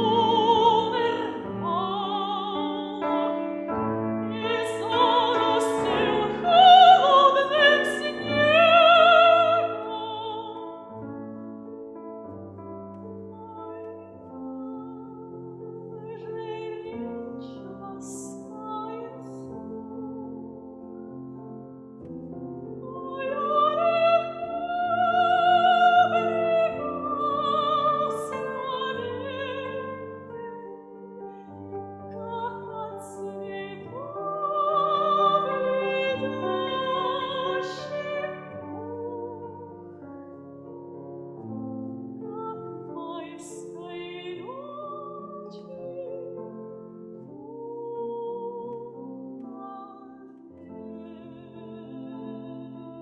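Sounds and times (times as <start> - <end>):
classical singing with vibrato: 0.0 - 11.6, 13.1 - 21.4, 22.7 - 53.0
piano chords: 0.0 - 53.0.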